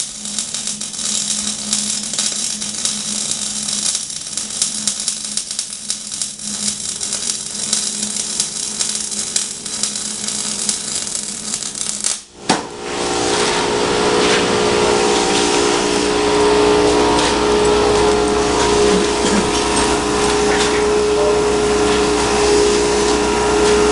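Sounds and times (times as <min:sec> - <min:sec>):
machine hum with steady tones: 0:00.0 - 0:23.9
welding arc crackling and hissing: 0:00.0 - 0:23.9.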